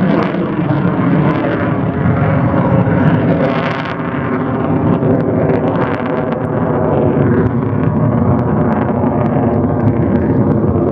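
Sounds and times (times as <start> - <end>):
jet afterburner roar with crackle: 0.0 - 10.9.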